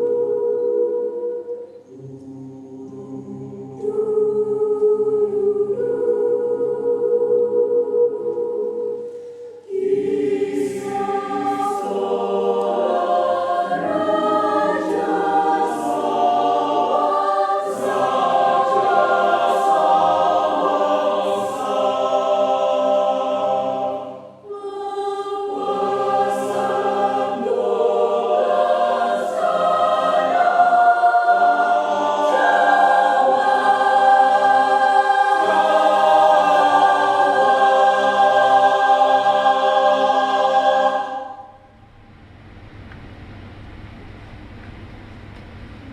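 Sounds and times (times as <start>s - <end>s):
choir singing: 0.0s - 41.6s.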